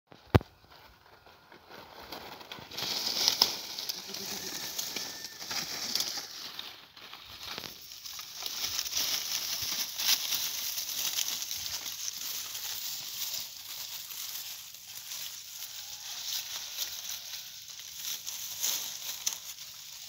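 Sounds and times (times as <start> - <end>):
dry leaves crackling: 0.1 - 20.0.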